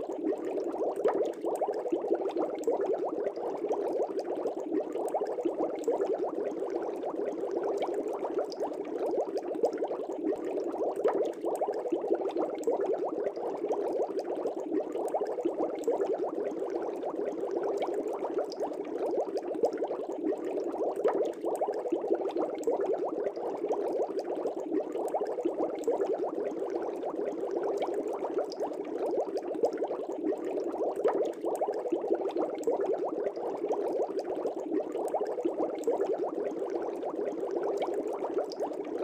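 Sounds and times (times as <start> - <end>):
aquarium air bubbling: 0.0 - 39.0.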